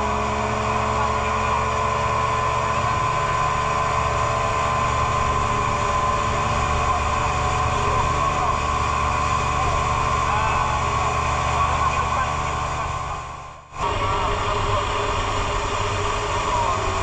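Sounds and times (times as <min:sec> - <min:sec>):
boat engine running: 0:00.0 - 0:17.0
water rushing along hull: 0:00.0 - 0:17.0.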